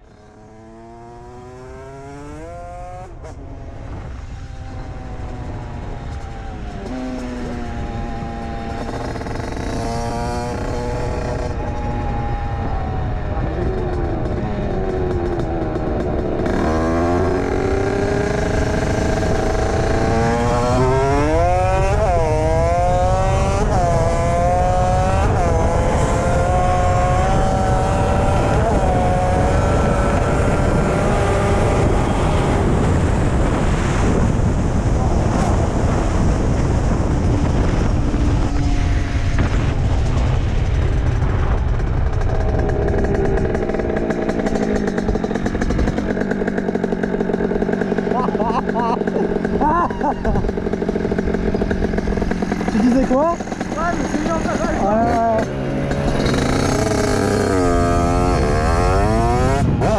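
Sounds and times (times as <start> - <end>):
wind noise on microphone: 0.0 - 59.9
two-stroke engine revving: 5.0 - 59.9.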